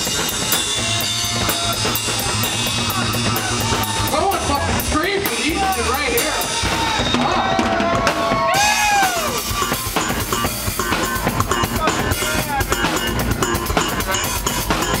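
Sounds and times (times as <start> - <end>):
live funk band playing: 0.0 - 15.0.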